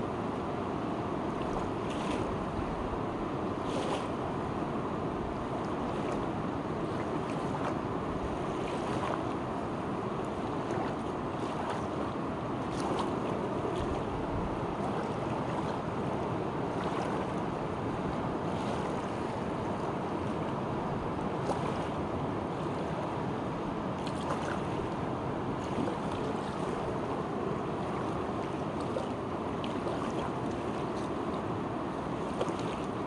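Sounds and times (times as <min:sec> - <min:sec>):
water splashes: 0:01.2 - 0:33.0.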